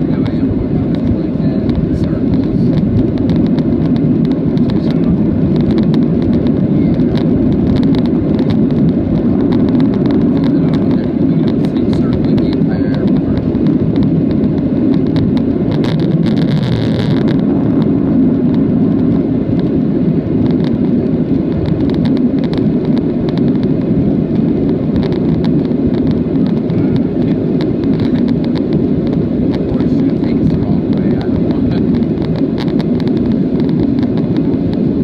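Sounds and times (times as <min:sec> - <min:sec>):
airplane cabin engine roar: 0:00.0 - 0:35.0.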